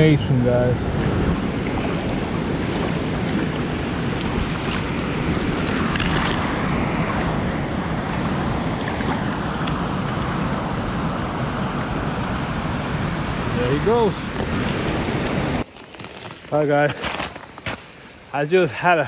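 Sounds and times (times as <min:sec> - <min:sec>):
creek water flowing: 0:00.0 - 0:19.0.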